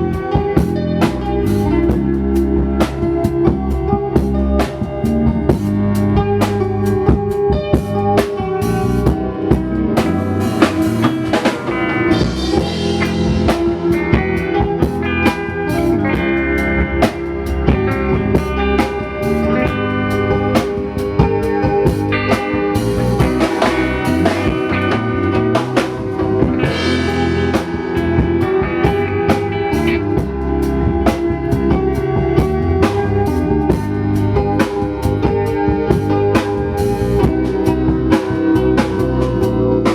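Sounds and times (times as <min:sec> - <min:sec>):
drum kit steady beat: 0:00.0 - 0:39.9
guitar playing: 0:00.0 - 0:39.9.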